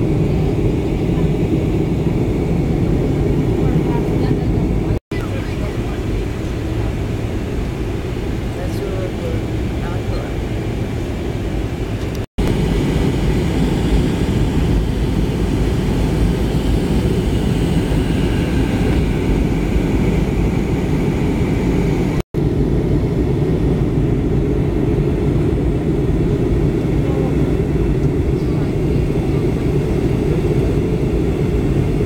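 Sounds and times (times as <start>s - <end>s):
airliner engine drone: 0.0s - 32.0s.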